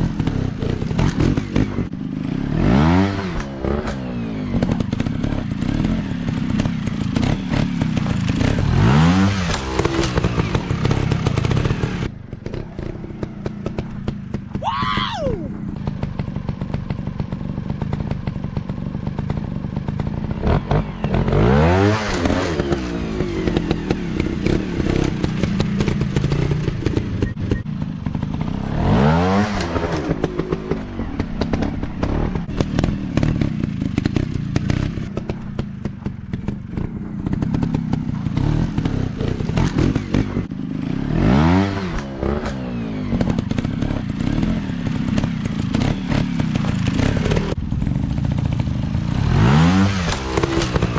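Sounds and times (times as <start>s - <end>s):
engine clattering: 0.0s - 14.6s, 15.3s - 50.9s
dirt bike engine revving: 0.0s - 50.9s.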